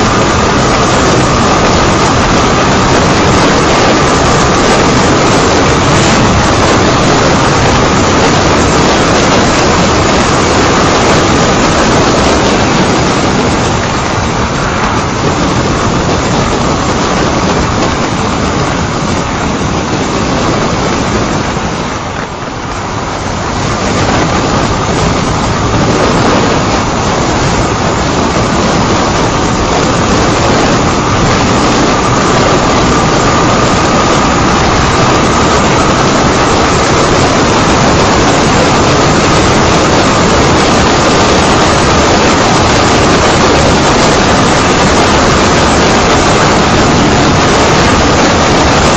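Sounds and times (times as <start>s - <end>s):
motorcycle engine running: 0.0s - 48.9s
wind rushing over microphone: 0.0s - 48.9s.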